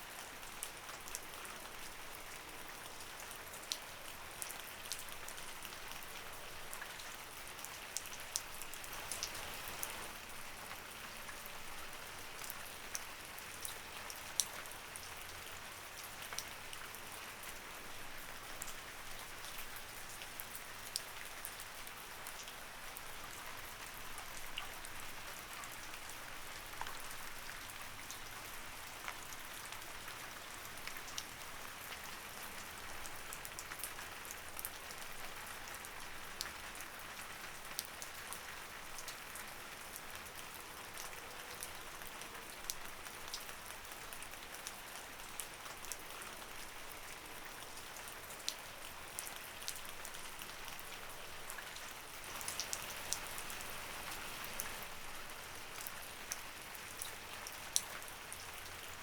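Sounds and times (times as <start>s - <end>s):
light rain hiss: 0.0s - 59.0s
raindrops ticking on surface: 0.2s - 59.0s.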